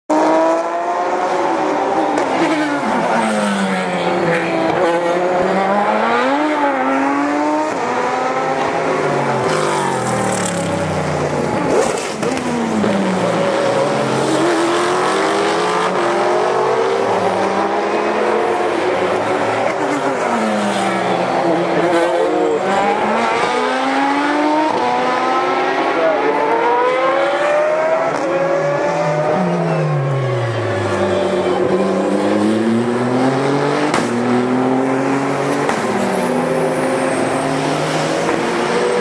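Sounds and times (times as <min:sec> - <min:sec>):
race car engines: 0:00.1 - 0:39.0.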